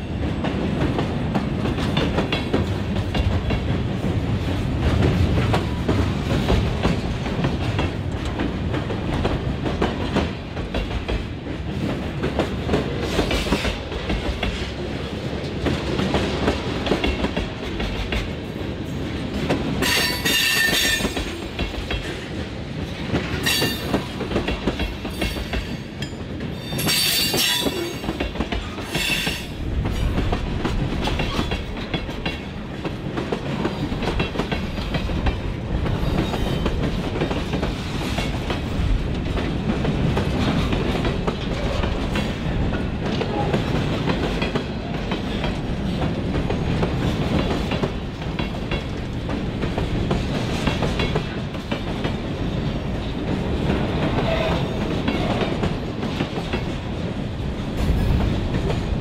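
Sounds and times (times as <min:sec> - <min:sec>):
freight train rumbling: 0:00.0 - 0:59.0
wheels clacking over rail joints: 0:00.0 - 0:59.0.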